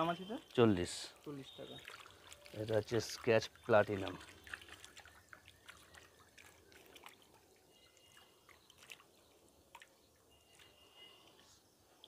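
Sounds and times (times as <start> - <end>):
water dripping and splashing: 0.0 - 11.5.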